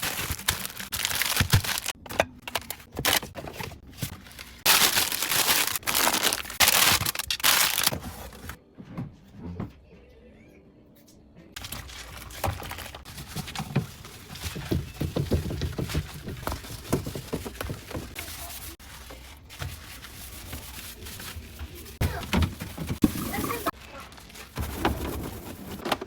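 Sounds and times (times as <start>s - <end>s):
items handled in a refrigerator: 0.0s - 9.9s, 11.5s - 26.0s.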